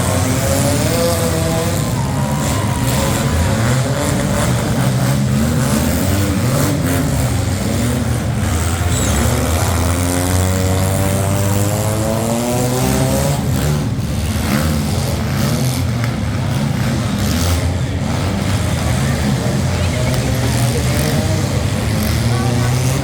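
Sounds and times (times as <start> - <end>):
car engines running loud: 0.0 - 23.0
engine revving up: 0.0 - 23.0.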